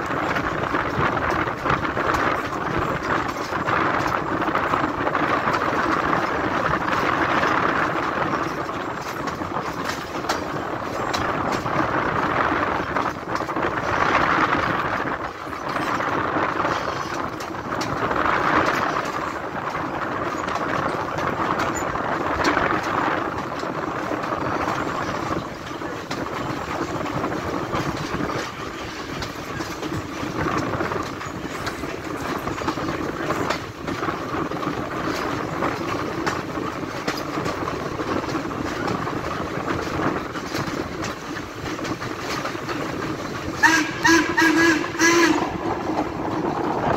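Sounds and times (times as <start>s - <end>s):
steam locomotive exhaust: 0.0s - 46.9s
wheel and rail noise: 0.0s - 46.9s.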